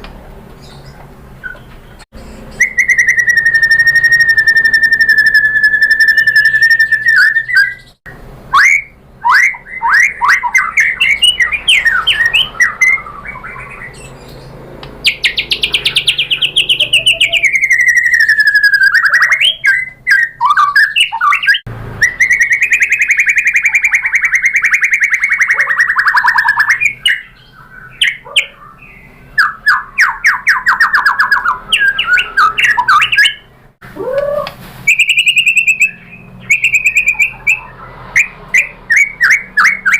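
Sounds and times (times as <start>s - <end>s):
bird singing: 0.5s - 39.9s.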